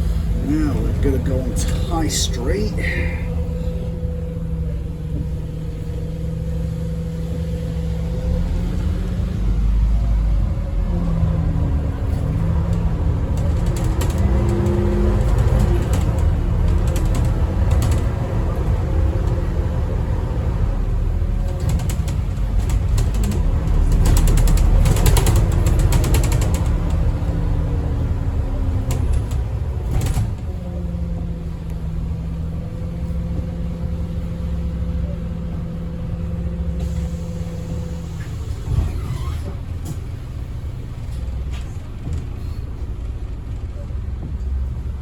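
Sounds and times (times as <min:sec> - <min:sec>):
bus body creaks and rattles: 0:00.0 - 0:45.0
bus diesel engine running: 0:00.0 - 0:45.0.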